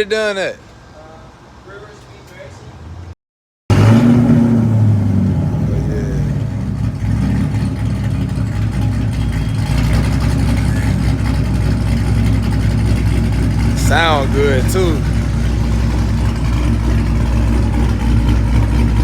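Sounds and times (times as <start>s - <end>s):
car engine running loud: 3.7s - 19.0s.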